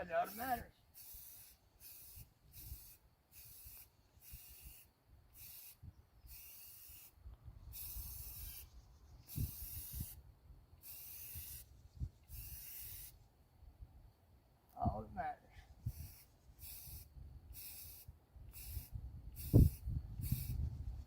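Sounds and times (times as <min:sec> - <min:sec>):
spray can hissing: 0:00.2 - 0:10.2, 0:10.8 - 0:13.2, 0:15.9 - 0:20.7.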